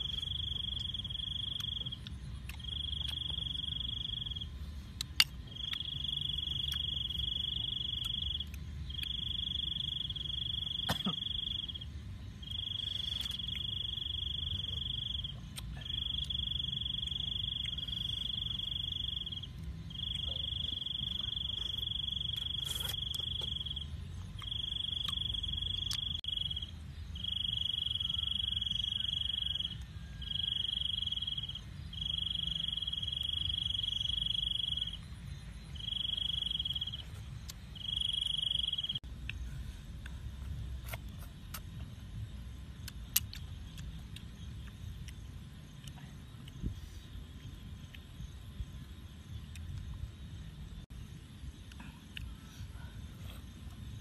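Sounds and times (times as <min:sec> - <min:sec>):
cricket trilling: 0:00.0 - 0:54.0.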